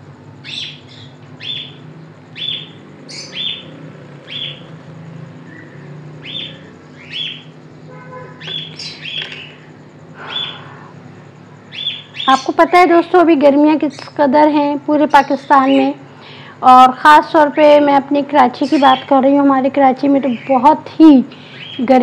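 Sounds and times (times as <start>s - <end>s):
small bird chirping: 0.2s - 16.5s, 17.6s - 22.0s.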